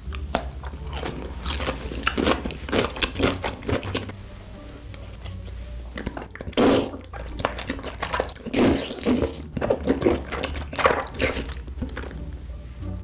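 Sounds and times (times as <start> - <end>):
wet slurping and chewing: 0.0 - 12.4.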